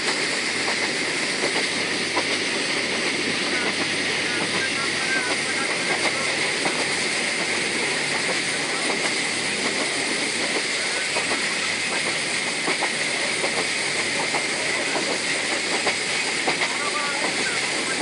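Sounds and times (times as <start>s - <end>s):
train running along track: 0.0s - 18.0s.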